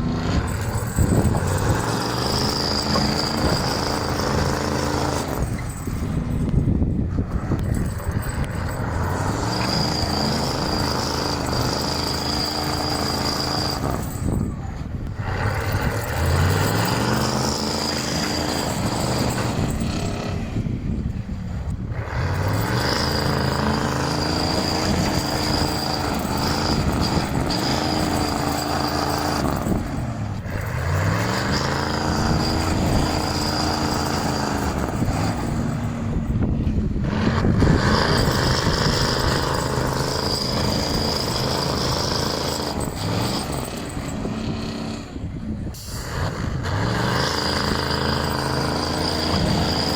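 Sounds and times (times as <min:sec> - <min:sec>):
truck engine accelerating: 0:00.0 - 0:49.9.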